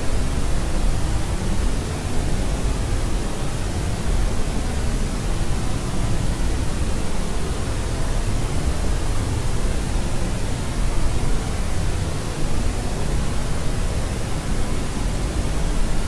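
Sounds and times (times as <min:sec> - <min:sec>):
deep white noise hiss: 0:00.0 - 0:16.0.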